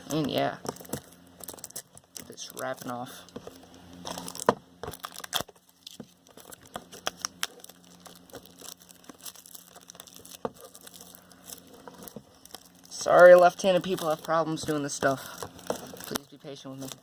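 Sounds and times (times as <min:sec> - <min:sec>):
plastic wrap crinkling and tearing: 0:00.0 - 0:03.1, 0:04.0 - 0:17.0.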